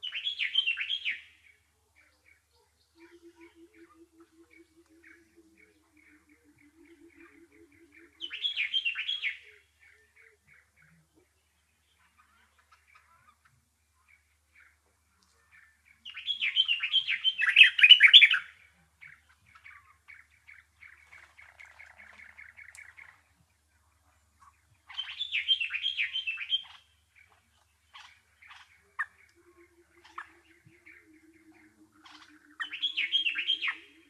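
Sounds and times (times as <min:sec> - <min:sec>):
songbird warbling: 0:02.1 - 0:13.5, 0:15.5 - 0:34.0.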